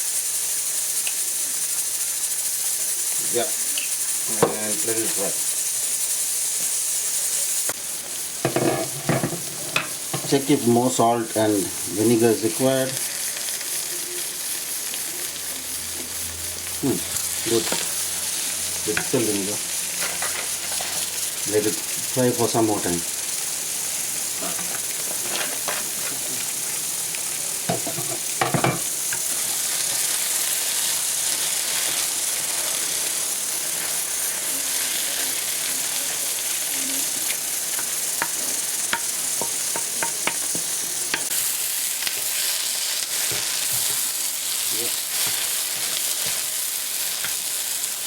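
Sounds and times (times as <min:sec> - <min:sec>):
food sizzling in a pan: 0:00.0 - 0:48.0.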